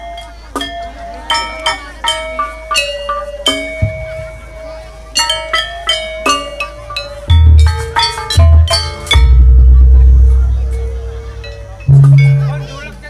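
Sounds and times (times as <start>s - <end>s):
metallophones struck with mallets: 0.0s - 13.0s.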